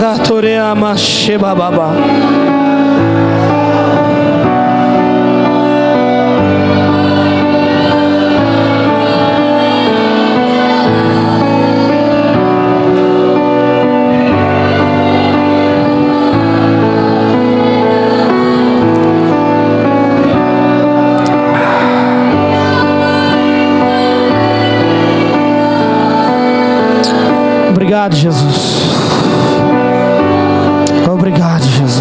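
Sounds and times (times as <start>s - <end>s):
slow worship music chords: 0.0s - 32.0s.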